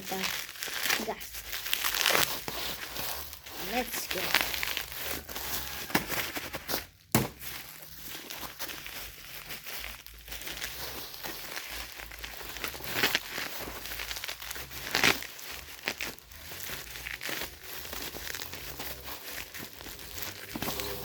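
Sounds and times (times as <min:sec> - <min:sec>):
package wrapping crinkling and tearing: 0:00.0 - 0:21.0.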